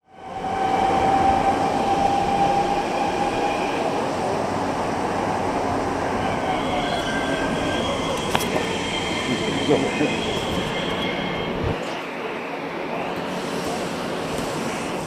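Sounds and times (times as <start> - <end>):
train rumbling with high whine: 0.0 - 15.0.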